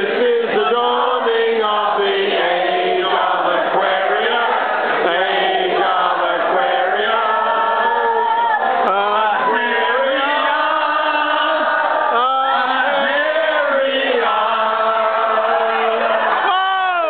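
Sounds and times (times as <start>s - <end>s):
voices chanting together: 0.0s - 16.5s
man singing into a microphone: 0.0s - 17.0s.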